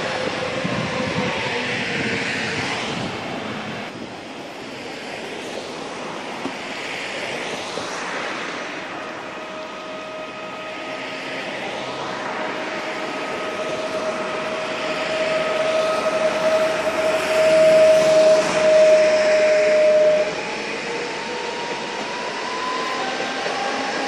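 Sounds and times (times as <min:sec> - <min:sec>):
electric train approaching: 0:00.0 - 0:24.0
train whine: 0:00.0 - 0:24.0.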